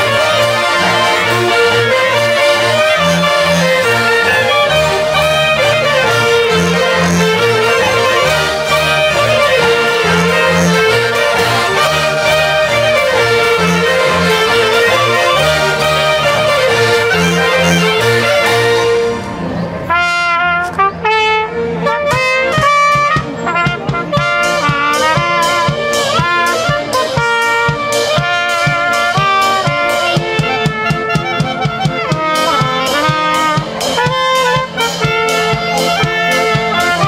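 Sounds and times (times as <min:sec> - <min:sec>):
steady band beat: 0:00.0 - 0:19.3, 0:21.8 - 0:37.0
brass melody: 0:00.0 - 0:37.0.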